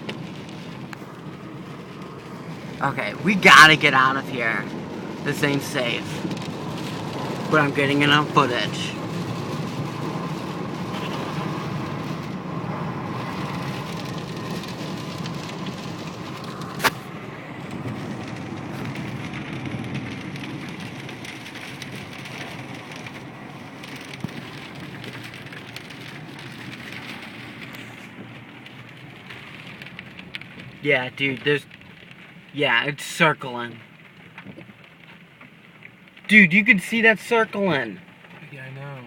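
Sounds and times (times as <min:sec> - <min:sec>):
car running noise: 0:00.0 - 0:39.0
rain on a car: 0:00.0 - 0:39.0.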